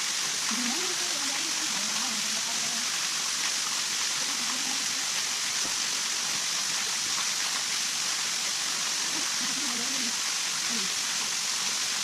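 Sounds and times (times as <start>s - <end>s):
rushing hiss of water: 0.0s - 12.0s.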